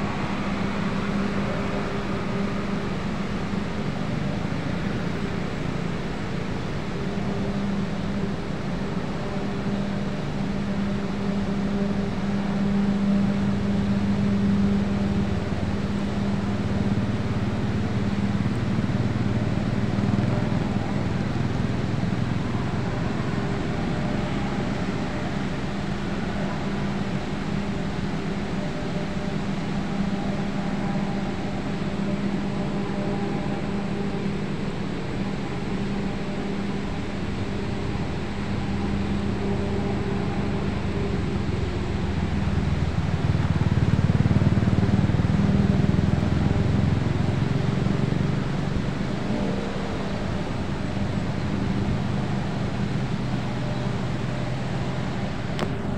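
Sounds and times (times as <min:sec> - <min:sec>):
low hum: 0:00.0 - 0:55.9.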